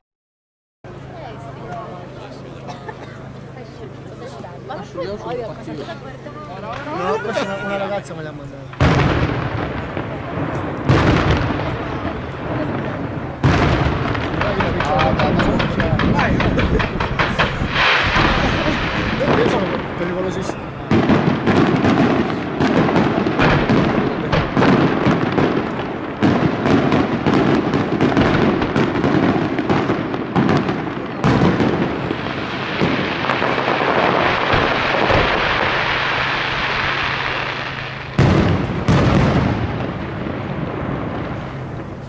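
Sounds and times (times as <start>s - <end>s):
loud firework bangs: 0.9s - 42.0s
dense firework hiss: 5.9s - 42.0s
firework shells bursting: 8.0s - 42.0s.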